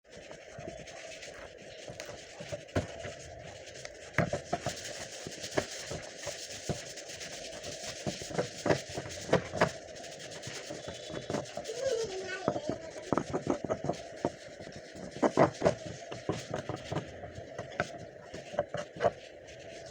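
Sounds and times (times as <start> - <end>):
steady hum: 0.1 - 19.9.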